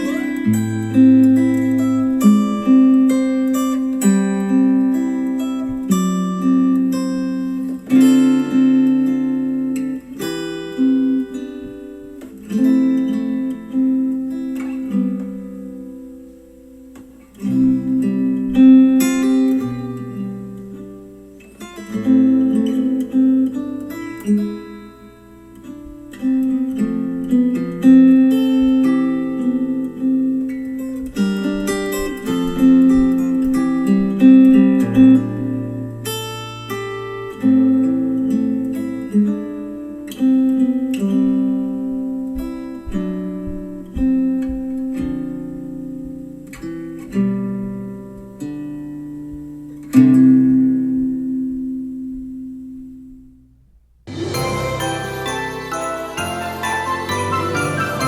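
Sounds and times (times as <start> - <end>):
acoustic guitar strumming chords: 0.0 - 58.0.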